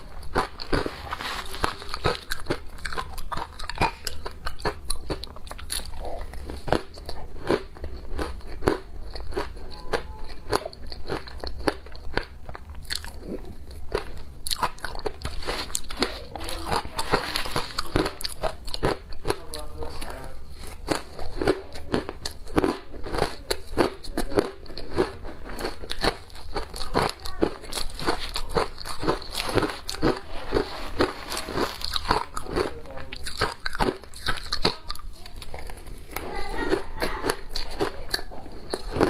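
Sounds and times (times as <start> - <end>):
ice being chewed: 0.0 - 39.0.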